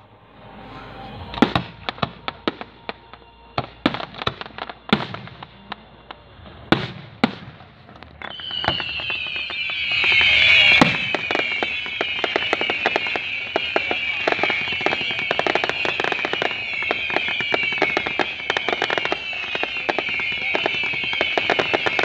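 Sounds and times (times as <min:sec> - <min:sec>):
firework whistling hiss: 0:00.2 - 0:22.0
fireworks bangs and pops: 0:01.3 - 0:22.0.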